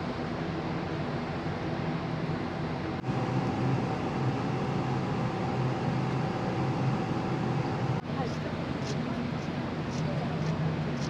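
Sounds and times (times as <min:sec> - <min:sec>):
ferry engine and ventilation hum: 0:00.0 - 0:11.0
faint steady whine: 0:01.9 - 0:11.0.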